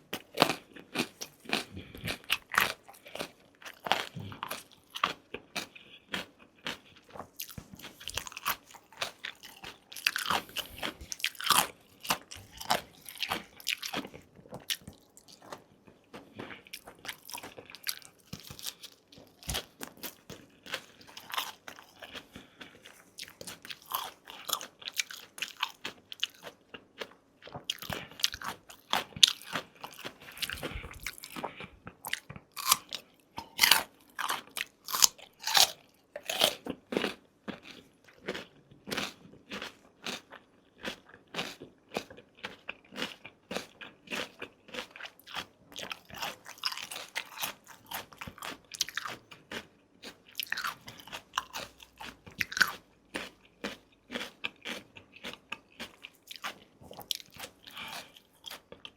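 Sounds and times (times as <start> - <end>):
person chewing food: 0.0 - 58.9.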